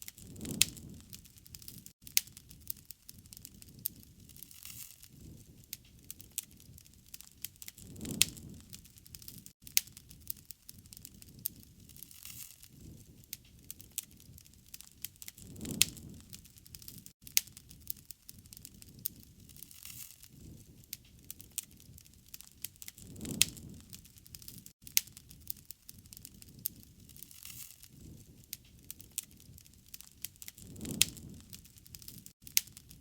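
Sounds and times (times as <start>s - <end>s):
wood fire crackling and popping: 0.0s - 33.0s
low rushing of flame: 0.1s - 33.0s.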